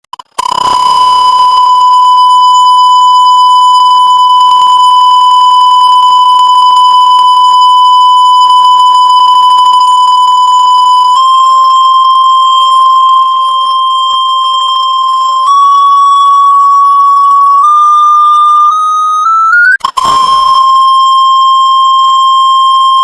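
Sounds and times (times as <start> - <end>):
high-pitched electronic tone: 0.1 - 23.0.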